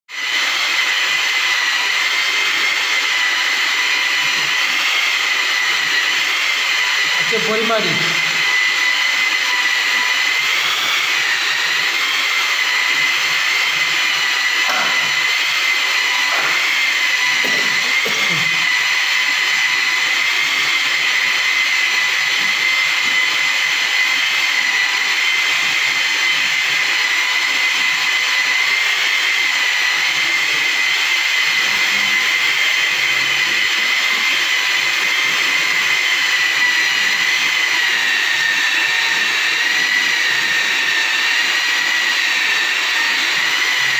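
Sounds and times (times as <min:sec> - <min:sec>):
electric polisher whining: 0:00.1 - 0:43.9.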